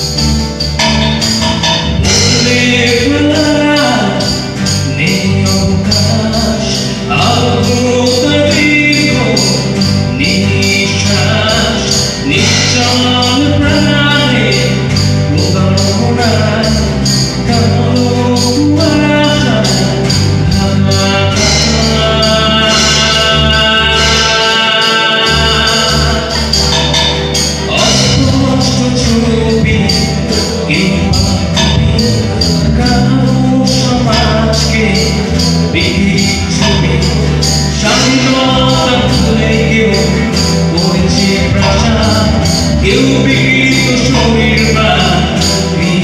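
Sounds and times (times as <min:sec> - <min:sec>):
high percussive beat: 0:00.0 - 0:46.0
live band playing: 0:00.0 - 0:46.0.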